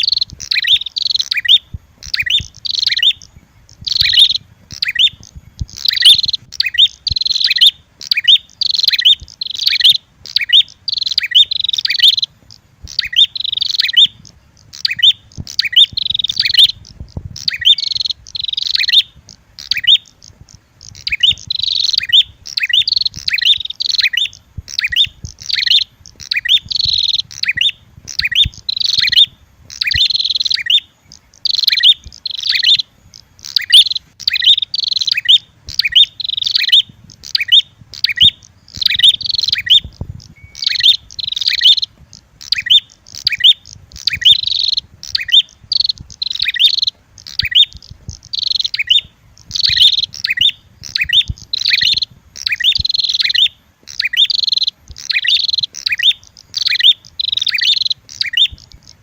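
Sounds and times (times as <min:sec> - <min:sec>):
bird chirping calls: 0:00.0 - 0:59.0.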